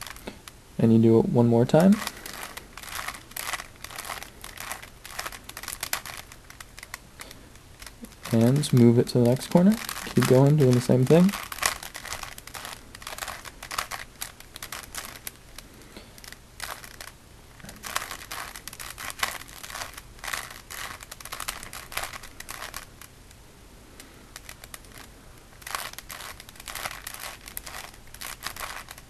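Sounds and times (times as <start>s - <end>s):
plastic puzzle cube clicking: 2.0s - 15.6s, 17.8s - 23.1s, 24.3s - 29.0s.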